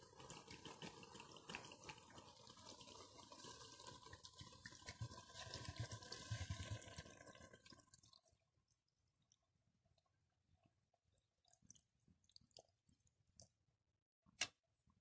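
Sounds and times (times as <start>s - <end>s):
water splashing on food: 0.0s - 10.1s, 11.0s - 13.6s
water pouring into a pot: 0.0s - 13.5s.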